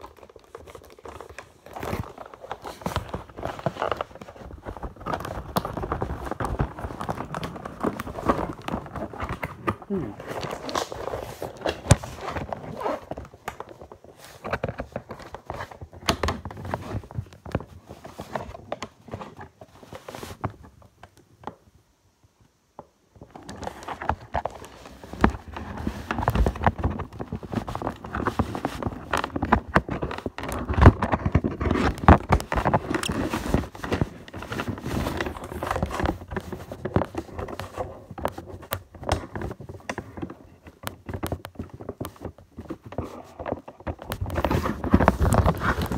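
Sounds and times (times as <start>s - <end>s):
packaging rustling: 0.0s - 20.9s, 23.2s - 45.9s.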